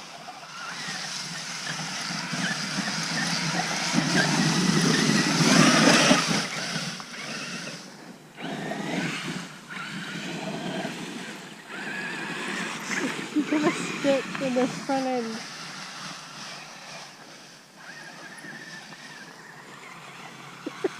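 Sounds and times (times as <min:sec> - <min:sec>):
rc truck tyre and motor noise: 0:00.0 - 0:20.9.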